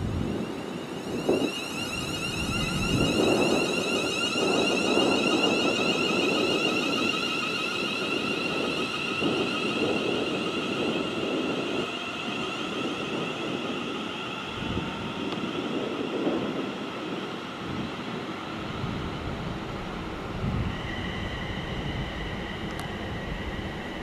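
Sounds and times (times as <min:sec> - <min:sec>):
high-pitched whine: 0:00.0 - 0:24.0
train rumble: 0:00.0 - 0:24.0.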